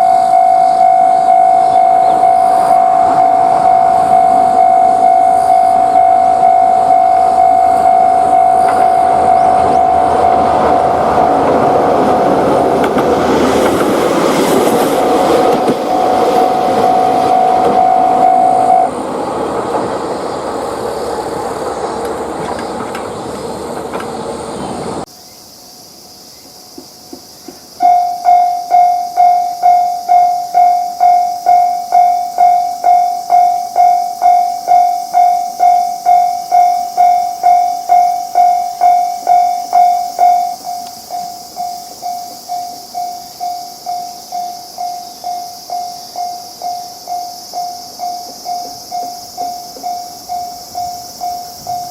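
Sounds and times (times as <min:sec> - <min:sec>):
electronic crossing bell ringing: 0:00.0 - 0:12.8, 0:14.2 - 0:19.0, 0:27.8 - 0:51.9
crossing warning bell ringing: 0:00.0 - 0:25.0, 0:27.8 - 0:51.9
train rumbling past: 0:00.0 - 0:25.1, 0:26.2 - 0:51.9.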